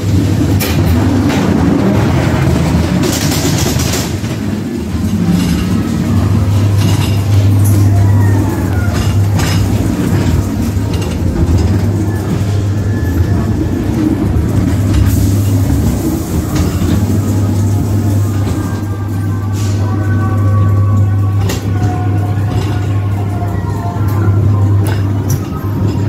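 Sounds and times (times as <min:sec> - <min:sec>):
ride car rumbling on track: 0:00.0 - 0:26.0
wheels clacking on track joints: 0:00.0 - 0:26.0.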